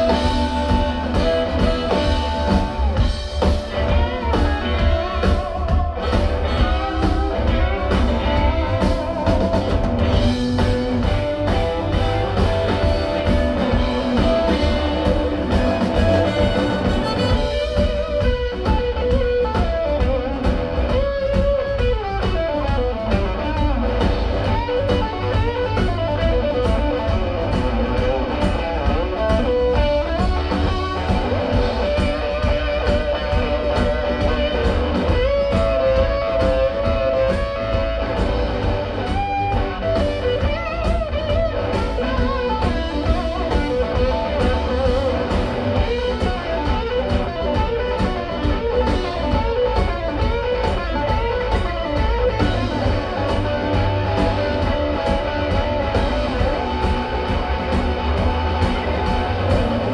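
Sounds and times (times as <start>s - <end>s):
blues-rock band playing: 0.0s - 59.9s
drum beat: 0.0s - 59.9s
electric guitar melody: 0.0s - 59.9s.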